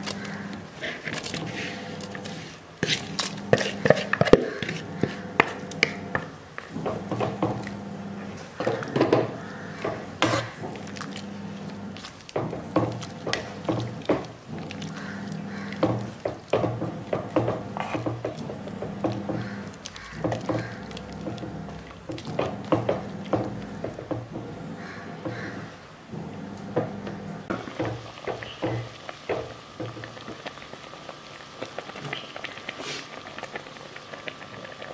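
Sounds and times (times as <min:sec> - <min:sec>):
wooden spoon stirring in clay pot: 0:00.0 - 0:33.6.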